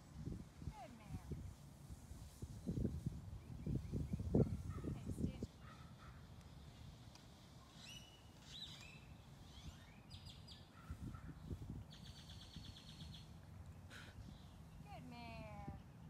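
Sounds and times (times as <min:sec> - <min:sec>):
faint birdsong: 0:02.5 - 0:16.0.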